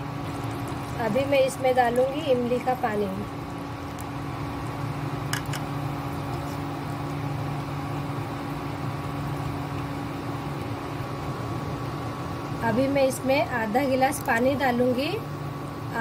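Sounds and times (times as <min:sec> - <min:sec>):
cooktop fan humming: 0:00.0 - 0:16.0.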